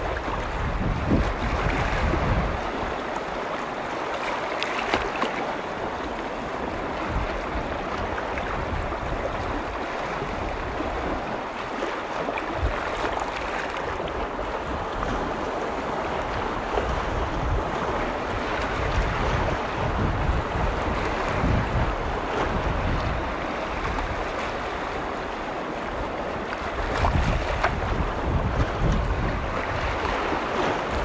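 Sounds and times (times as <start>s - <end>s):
wind gusts rumbling on microphone: 0.0s - 4.3s, 4.9s - 31.0s
lake waves washing against shore: 0.0s - 31.0s.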